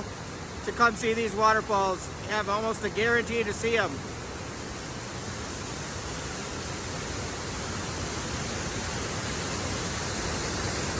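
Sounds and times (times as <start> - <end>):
water rushing over spillway: 0.0 - 10.9.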